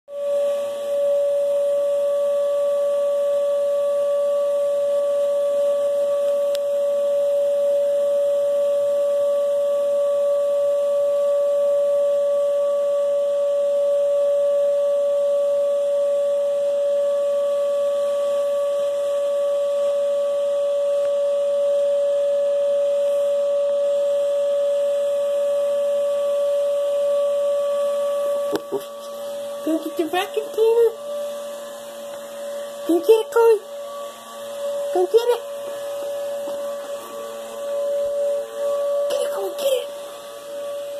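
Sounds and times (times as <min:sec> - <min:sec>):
vacuum cleaner motor whining: 0:00.1 - 0:40.9.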